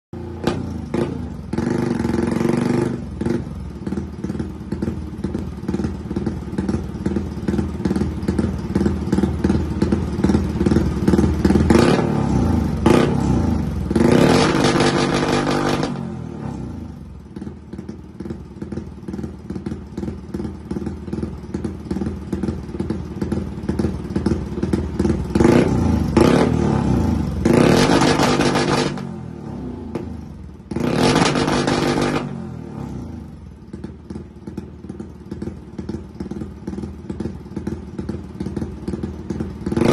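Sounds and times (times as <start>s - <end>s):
motorcycle engine idling and revving: 0.1s - 39.9s.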